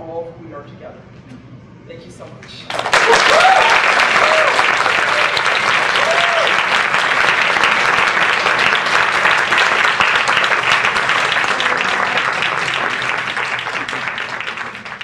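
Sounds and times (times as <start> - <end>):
audience applauding: 2.7 - 15.0.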